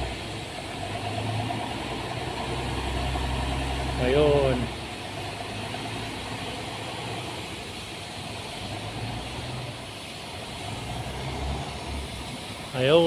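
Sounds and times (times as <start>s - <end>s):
low ship engine drone: 0.0s - 13.0s.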